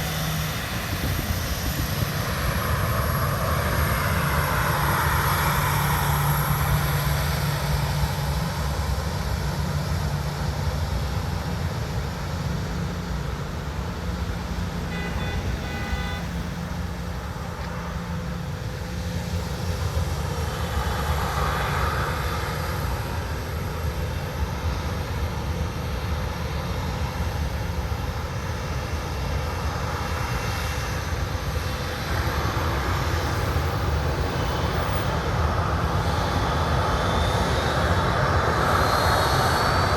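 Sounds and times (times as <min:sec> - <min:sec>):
jet airliner engines droning: 0:00.0 - 0:39.9.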